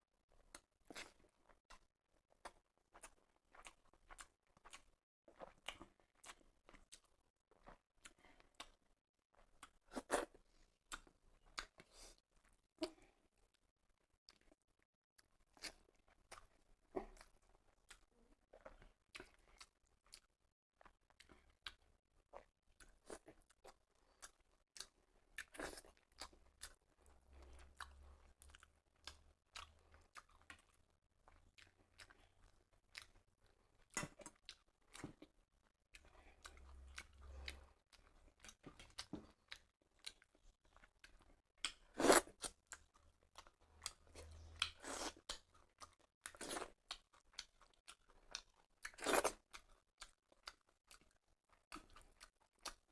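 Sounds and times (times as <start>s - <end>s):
person chewing food: 0.3s - 52.9s.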